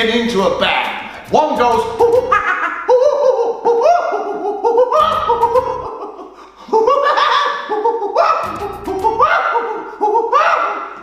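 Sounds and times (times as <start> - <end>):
man imitating monkey hoots: 1.8 - 11.0.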